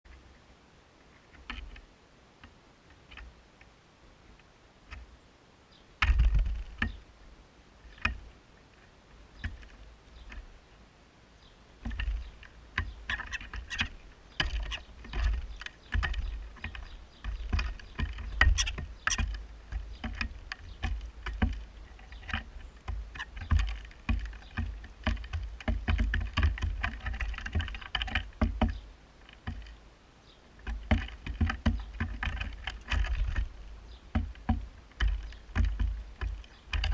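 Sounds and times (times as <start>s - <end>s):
birds pecking and tapping: 1.0s - 3.8s, 4.4s - 5.2s, 6.0s - 10.7s, 11.8s - 36.9s.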